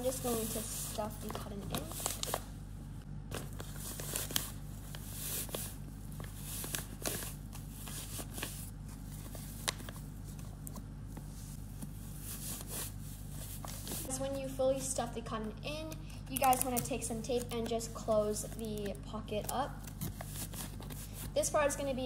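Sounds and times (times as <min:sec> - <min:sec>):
paper crinkling and rustling: 0:00.0 - 0:02.5, 0:03.3 - 0:14.1, 0:16.3 - 0:21.9.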